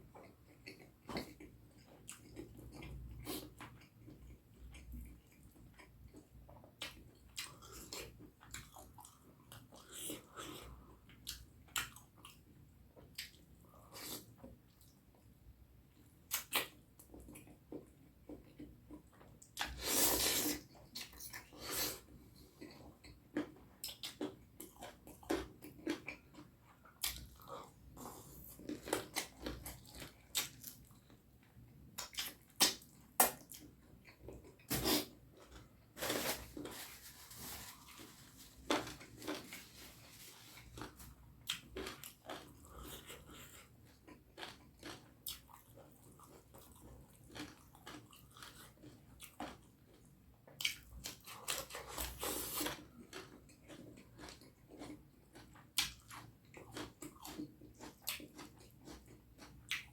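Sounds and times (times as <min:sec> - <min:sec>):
person chewing food: 0:00.0 - 0:15.3, 0:15.9 - 0:36.8, 0:37.5 - 0:59.9.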